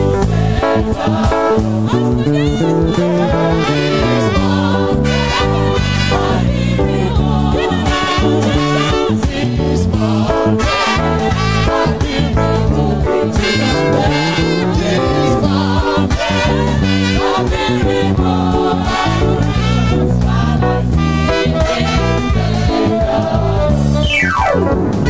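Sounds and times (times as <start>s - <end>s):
singing over heavy bass music: 0.0s - 25.0s.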